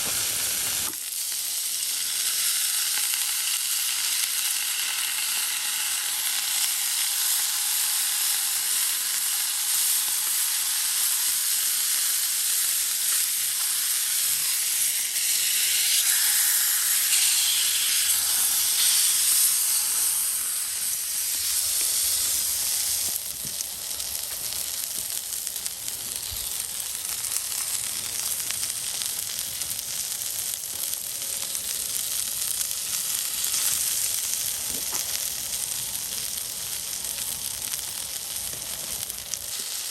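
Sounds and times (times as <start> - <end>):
burger patty sizzling: 0.0 - 39.9.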